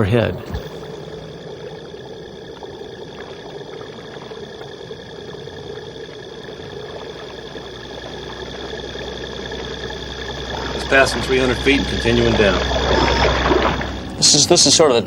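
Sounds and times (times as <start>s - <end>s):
mechanical hum with whining tones: 0.0s - 15.0s.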